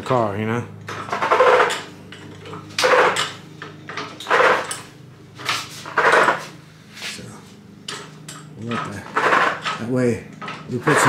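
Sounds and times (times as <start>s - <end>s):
hydraulic floor jack pumping: 0.8s - 7.2s, 7.8s - 11.0s.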